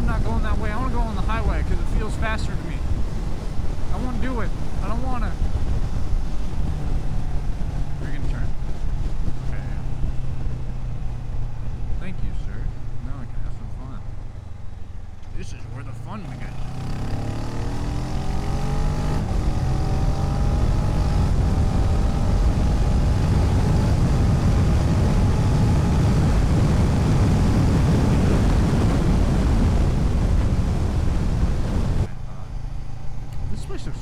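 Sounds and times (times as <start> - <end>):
wind noise on microphone: 0.0 - 13.4, 16.6 - 32.1
motorcycle engine accelerating: 0.0 - 34.0.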